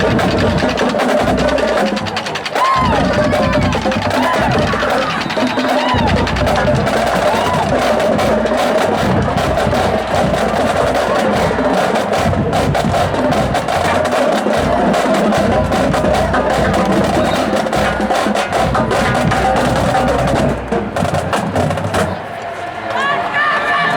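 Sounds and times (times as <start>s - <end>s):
drums striking: 0.0s - 22.4s
marching band playing: 0.0s - 23.9s.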